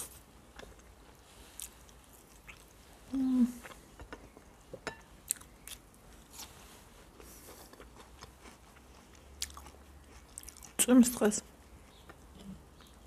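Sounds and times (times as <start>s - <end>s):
person chewing food: 0.4s - 2.9s, 3.5s - 10.8s, 11.5s - 13.0s.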